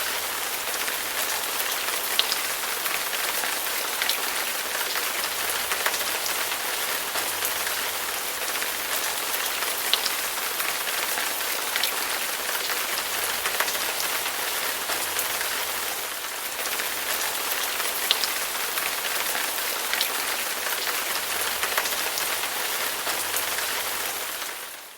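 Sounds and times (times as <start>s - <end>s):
steady rain hiss: 0.0s - 24.9s.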